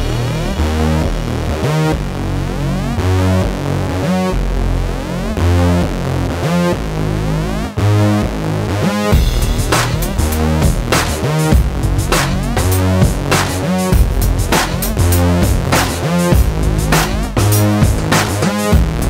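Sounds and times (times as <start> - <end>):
electronic synthesizer music: 0.0 - 19.0.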